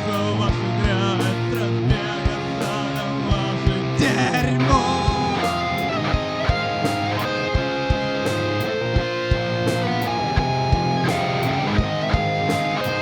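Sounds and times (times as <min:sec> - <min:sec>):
bass guitar: 0:00.0 - 0:13.0
strummed electric guitar: 0:00.0 - 0:13.0
steady drum beat: 0:00.5 - 0:13.0.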